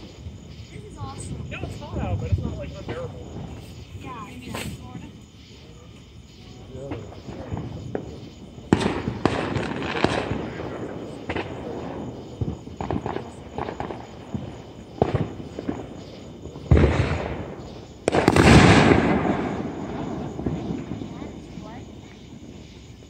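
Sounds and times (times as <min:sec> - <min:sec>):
fireworks bangs and pops: 0:00.0 - 0:23.0
loud fireworks booms rumbling: 0:00.0 - 0:23.0.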